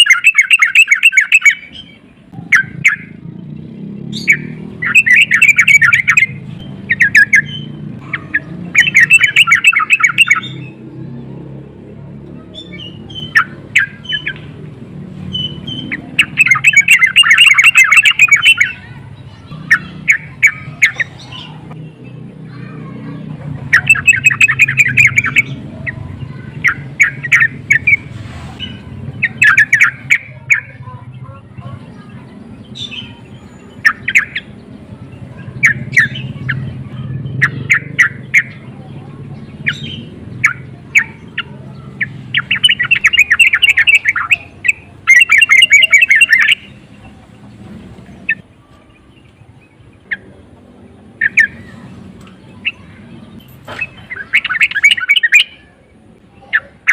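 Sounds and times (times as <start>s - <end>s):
bird chattering calls: 0.0s - 11.0s, 12.4s - 50.5s, 51.1s - 56.9s.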